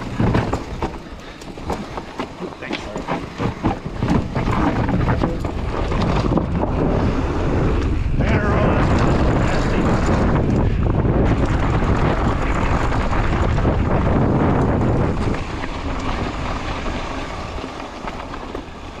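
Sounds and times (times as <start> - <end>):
bike tyre rumble and rattle: 0.0 - 19.0
wind rushing over microphone: 0.0 - 19.0.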